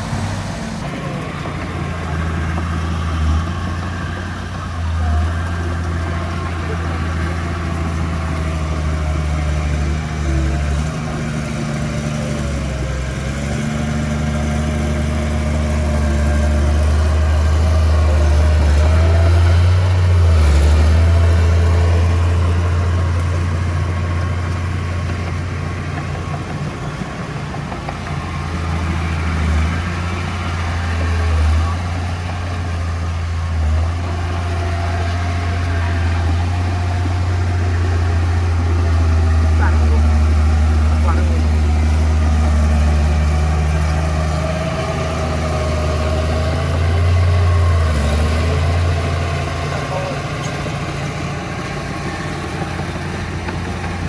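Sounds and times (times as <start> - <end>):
diesel engine deep hum: 0.0 - 54.0.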